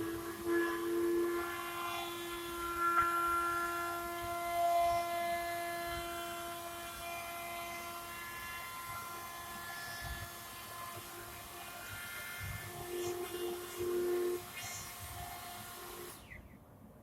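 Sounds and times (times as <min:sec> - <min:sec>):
machine whining: 0:00.0 - 0:16.6.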